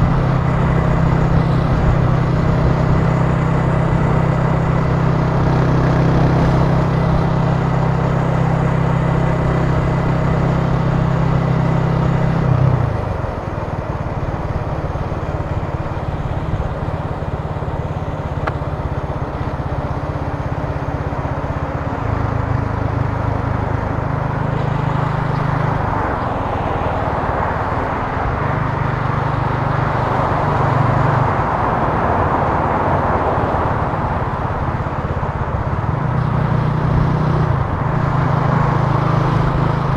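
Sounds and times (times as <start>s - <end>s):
motorcycle engine droning: 0.0s - 39.9s
wind and road noise: 0.0s - 39.9s.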